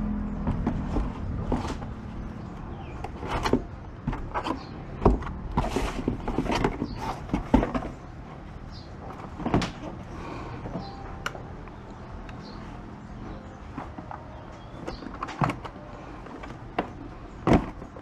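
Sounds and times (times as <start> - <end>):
handling knocks and clicks: 0.3 - 18.0.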